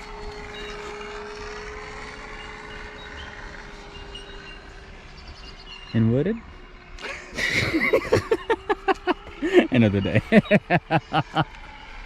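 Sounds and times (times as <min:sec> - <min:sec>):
model plane droning in flight: 0:00.0 - 0:12.0.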